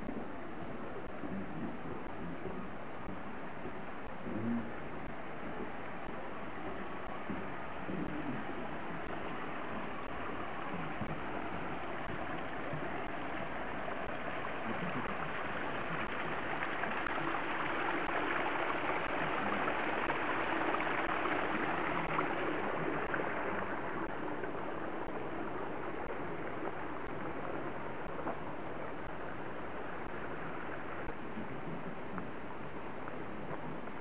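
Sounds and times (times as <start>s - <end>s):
water rushing down rocks: 0.1s - 34.0s.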